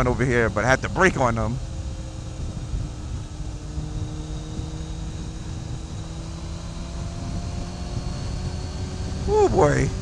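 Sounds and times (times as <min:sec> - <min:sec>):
motorcycle engine running: 0:00.0 - 0:10.0
wind and road rumble: 0:00.0 - 0:10.0.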